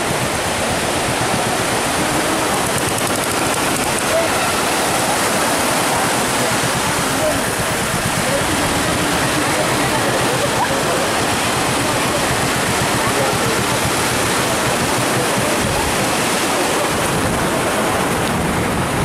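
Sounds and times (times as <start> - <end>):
faint voices of people: 0.0 - 19.0
waves breaking on beach: 0.0 - 19.0.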